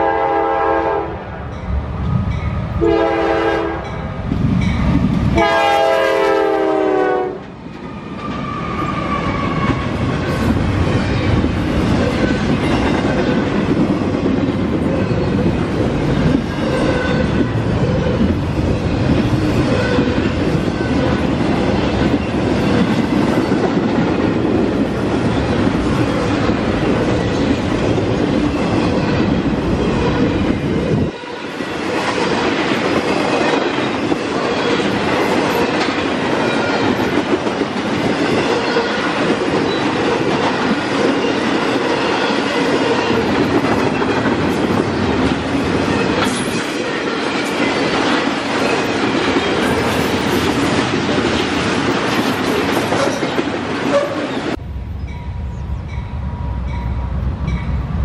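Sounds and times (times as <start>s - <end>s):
deep train rumble: 0.0s - 58.0s
freight train wheels on rails: 0.0s - 58.0s.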